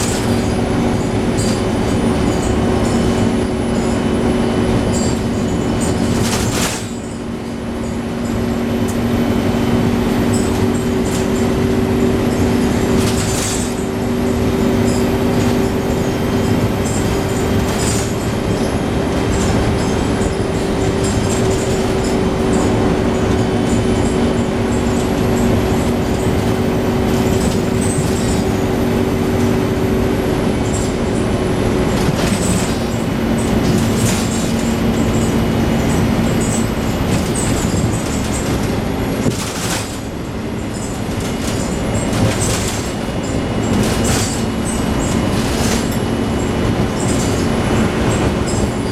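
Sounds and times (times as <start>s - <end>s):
bus drivetrain hum with whine: 0.0s - 48.9s
rattles inside bus: 0.0s - 48.9s.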